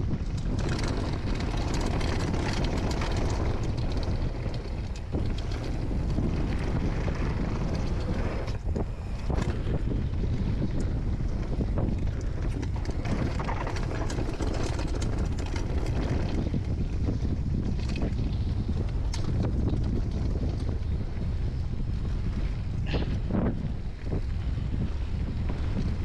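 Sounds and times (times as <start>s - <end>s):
sharp clicks and rattles: 0.0s - 20.9s
bike tyres rumbling on gravel: 0.0s - 26.0s
wind buffeting microphone: 0.0s - 26.0s.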